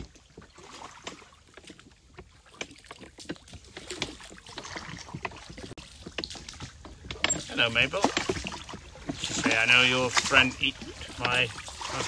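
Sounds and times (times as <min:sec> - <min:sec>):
water splashing against a boat: 0:00.0 - 0:12.0.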